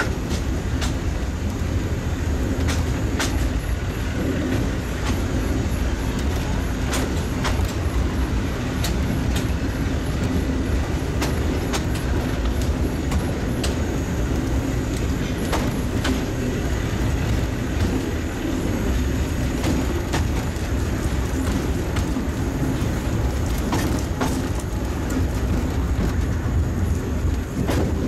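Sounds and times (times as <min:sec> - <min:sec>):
sharp clicks and clacks: 0:00.0 - 0:01.7, 0:02.4 - 0:03.6, 0:06.2 - 0:07.9, 0:08.7 - 0:28.0
train wheels rumbling on rails: 0:00.0 - 0:28.0.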